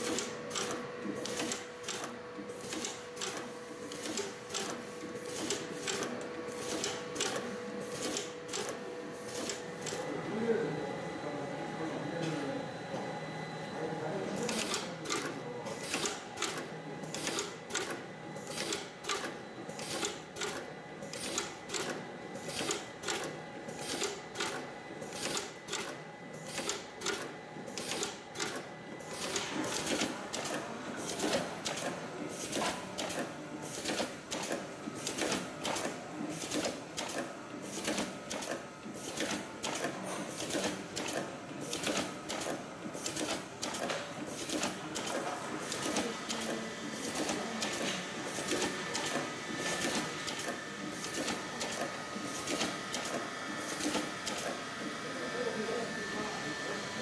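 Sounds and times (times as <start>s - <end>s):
labeling machine clattering: 0.0s - 10.1s, 14.3s - 54.7s.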